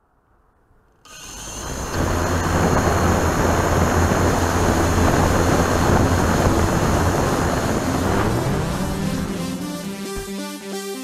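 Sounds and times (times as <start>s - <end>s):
drone motors and propellers spinning: 1.1s - 10.3s.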